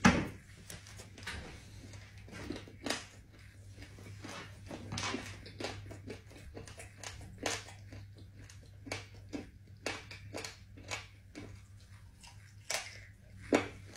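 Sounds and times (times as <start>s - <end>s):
wet eating smacks and clicks: 0.6s - 13.9s.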